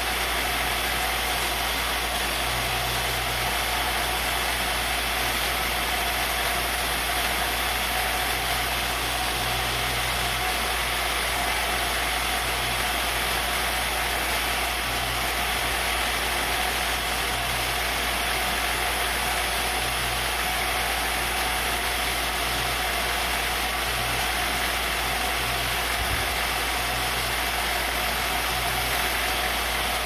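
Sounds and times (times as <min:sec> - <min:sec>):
end mill cutting wood: 0:00.0 - 0:30.0
milling machine running: 0:00.0 - 0:30.0.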